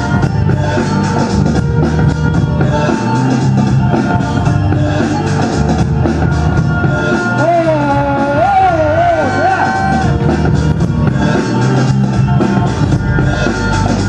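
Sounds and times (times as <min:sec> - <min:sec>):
funky breakbeat music: 0:00.0 - 0:14.0
wavering melody line: 0:00.0 - 0:14.0.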